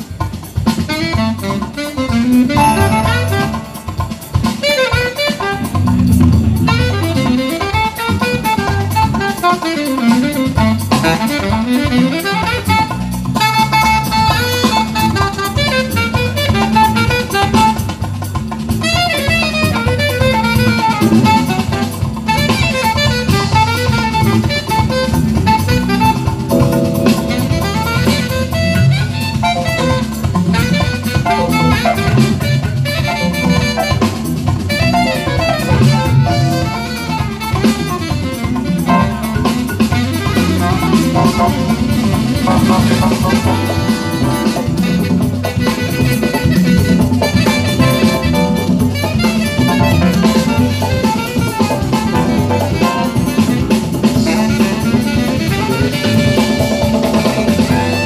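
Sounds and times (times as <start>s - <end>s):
drum kit and percussion: 0.0s - 58.0s
electric bass: 0.0s - 58.0s
saxophone melody: 0.0s - 58.0s.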